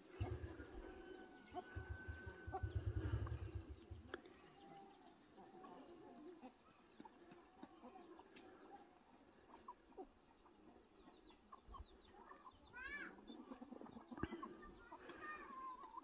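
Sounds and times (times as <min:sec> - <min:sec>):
chickens clucking and chirping: 0:00.0 - 0:16.0.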